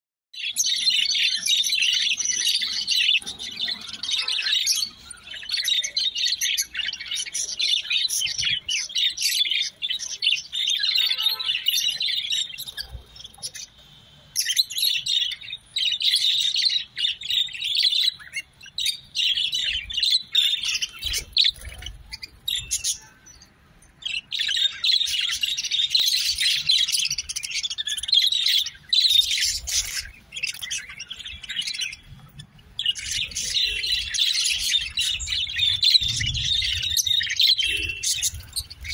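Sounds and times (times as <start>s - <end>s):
budgerigars chattering and chirping: 0.4s - 38.9s.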